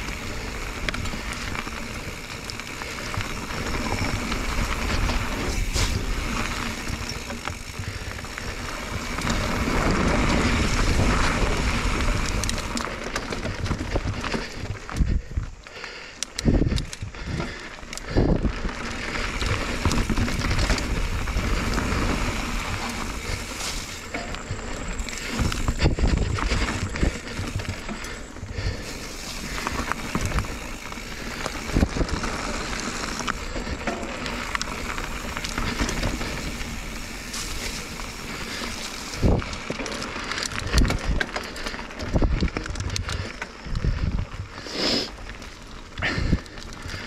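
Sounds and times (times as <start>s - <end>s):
bike rattling and knocking: 0.0s - 47.0s
bike tyres on loose stones: 0.0s - 47.0s.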